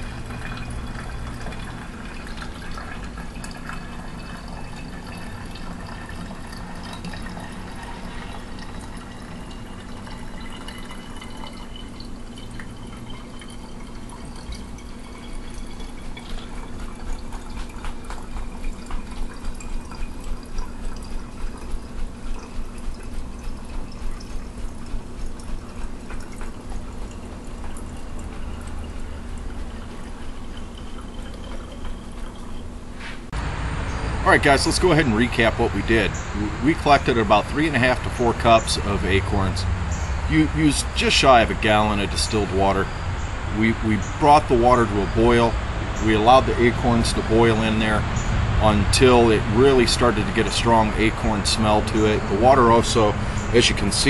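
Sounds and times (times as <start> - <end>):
water trickling into bottle: 0.0 - 54.0.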